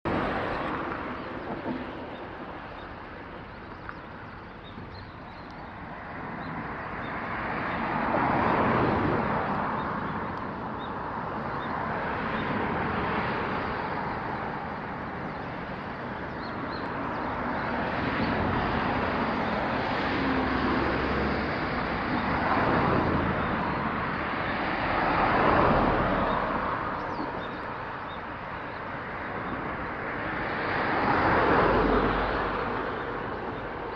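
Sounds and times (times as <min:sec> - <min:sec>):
vehicles passing: 0:00.0 - 0:33.9.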